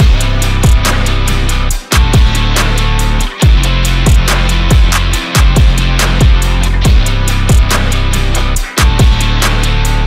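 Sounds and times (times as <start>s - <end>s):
heavy bass music: 0.0s - 10.0s.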